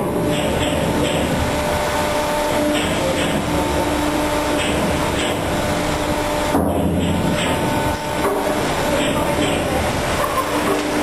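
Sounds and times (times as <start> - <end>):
deck machinery hum: 0.0 - 11.0
ship engines droning: 0.0 - 11.0.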